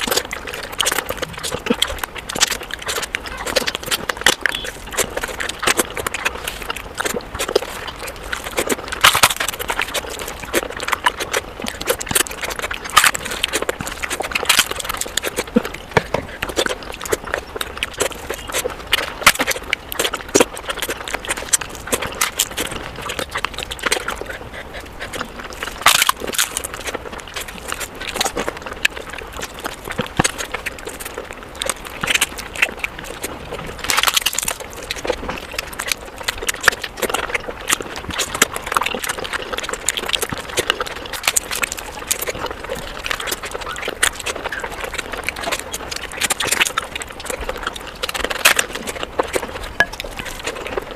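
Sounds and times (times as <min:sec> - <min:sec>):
wet chewing and lip-smacking: 0:00.0 - 0:50.9.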